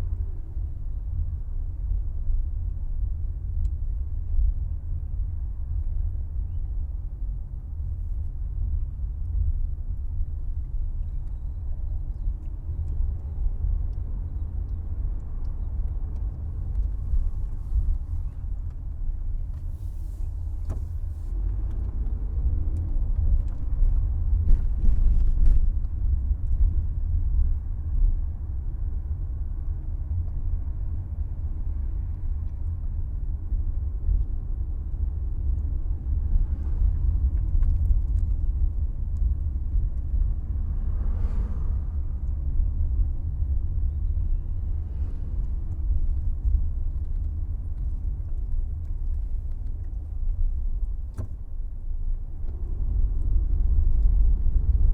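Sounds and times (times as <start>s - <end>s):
car road rumble: 0.0s - 54.9s.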